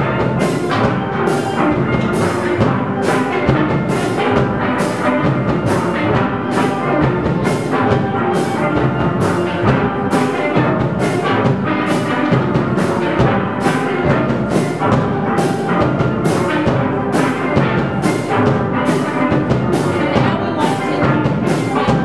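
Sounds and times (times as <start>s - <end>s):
drum kit: 0.0s - 22.0s
steel pans playing tune: 0.0s - 22.0s.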